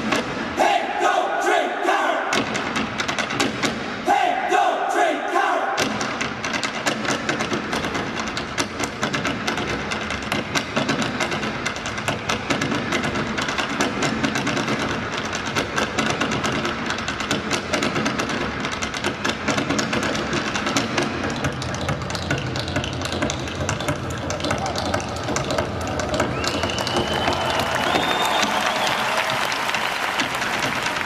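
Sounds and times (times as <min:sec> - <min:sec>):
hard shoes tapping on stage floor: 0:05.8 - 0:31.0.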